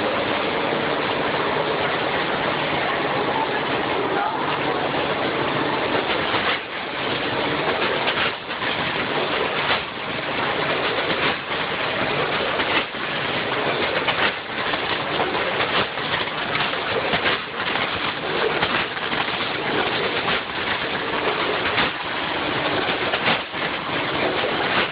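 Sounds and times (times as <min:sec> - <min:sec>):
packaging machine running: 0:00.0 - 0:24.9.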